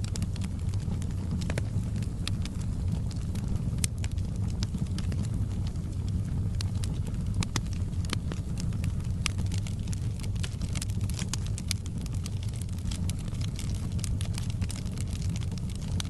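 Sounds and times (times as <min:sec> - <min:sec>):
fire crackling and popping: 0:00.0 - 0:16.0
low rumble of fire: 0:00.0 - 0:16.0.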